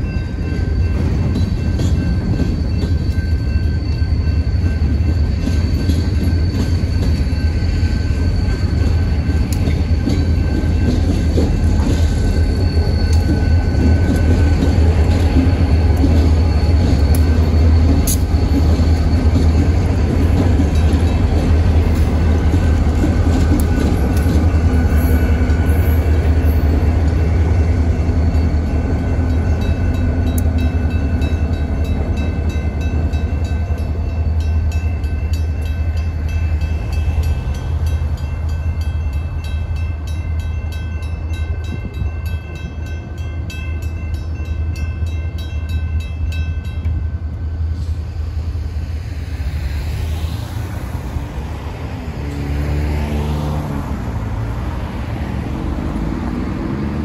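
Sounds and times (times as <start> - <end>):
diesel locomotives passing: 0.0 - 57.0
freight train rumbling: 0.0 - 57.0.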